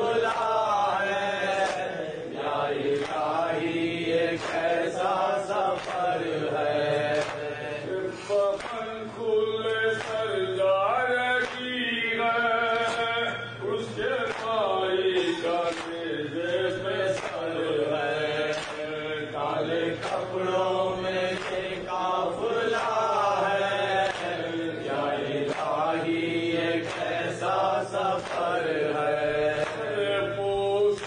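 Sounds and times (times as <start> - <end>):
men chanting into a microphone: 0.0 - 31.0.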